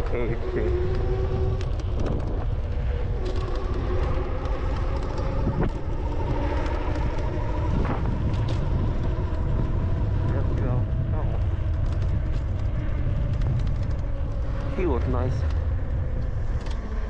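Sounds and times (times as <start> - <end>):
faint whining tones: 0.0 - 17.0
strong wind buffeting microphone: 0.0 - 17.0.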